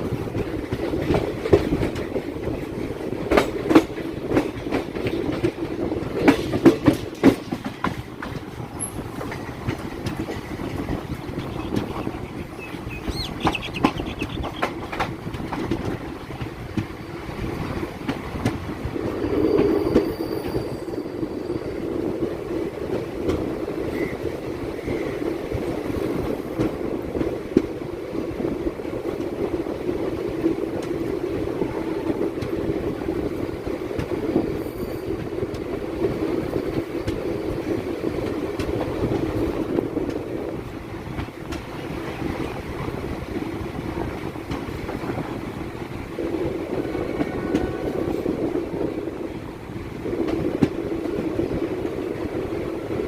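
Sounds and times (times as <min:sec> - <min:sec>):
electric train hum: 0:00.0 - 0:53.0
wheels clattering on rails: 0:00.0 - 0:53.0.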